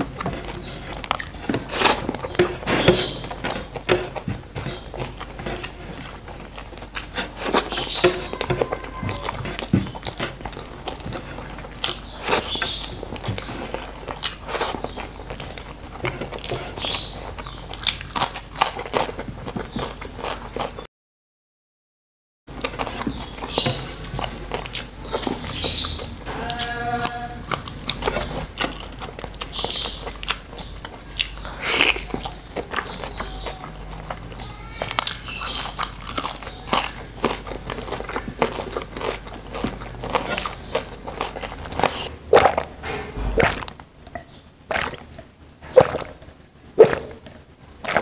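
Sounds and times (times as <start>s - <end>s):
chewing and lip-smacking: 0.0s - 2.4s, 3.0s - 20.8s, 22.5s - 42.7s, 43.4s - 48.0s
food crunching: 0.0s - 20.8s, 22.5s - 48.0s.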